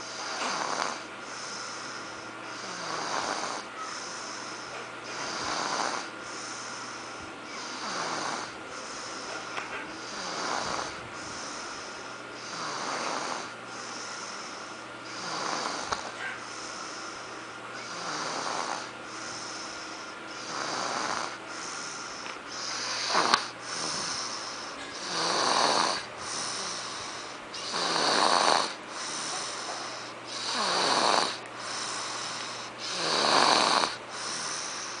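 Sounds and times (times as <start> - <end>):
toddler snoring: 0.0 - 35.0.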